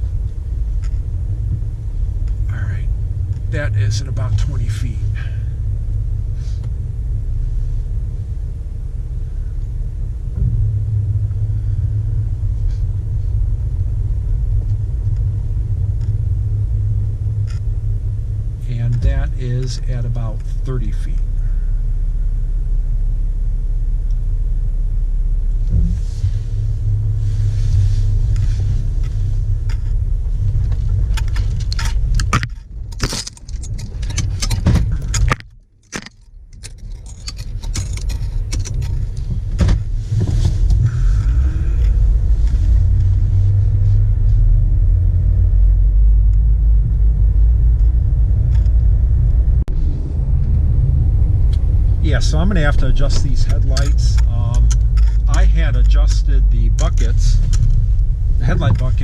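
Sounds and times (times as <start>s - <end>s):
rattles and clicks: 0.0s - 5.4s, 10.2s - 21.5s, 25.6s - 44.4s, 46.2s - 59.0s
vehicle engine rumble: 0.0s - 59.0s.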